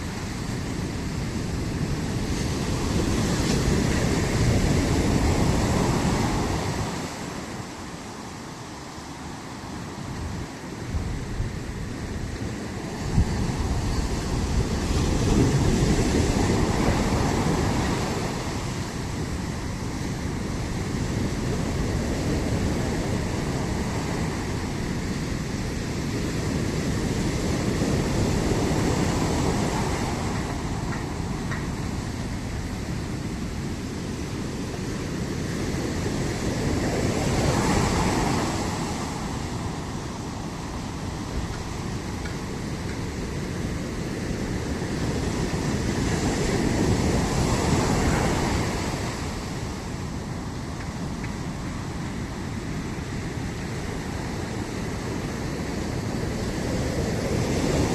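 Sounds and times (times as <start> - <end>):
ocean surf breaking: 0.0 - 57.9.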